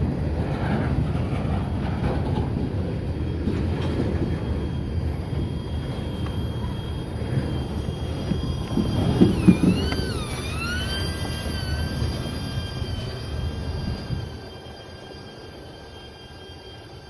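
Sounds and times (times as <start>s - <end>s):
train low rumble: 0.0s - 17.0s
high whine: 2.0s - 17.0s.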